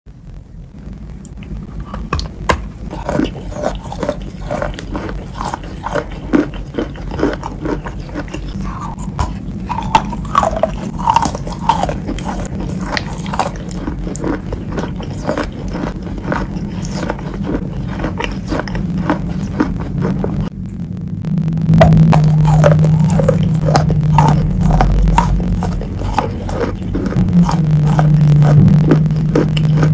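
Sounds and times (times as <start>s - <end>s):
steady low hum: 0.1s - 29.9s
chalk crunching while chewing: 2.2s - 20.5s, 22.1s - 29.9s.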